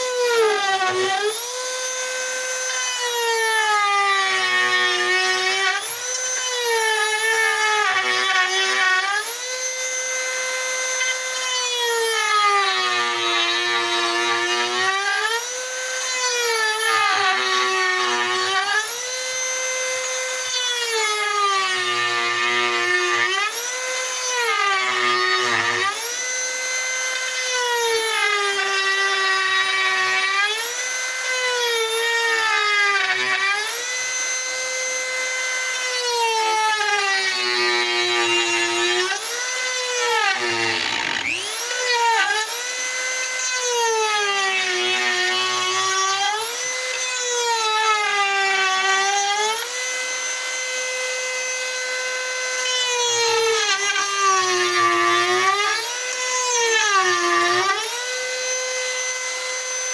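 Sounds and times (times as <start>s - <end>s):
rotary carving tool cutting wood: 0.0s - 59.9s.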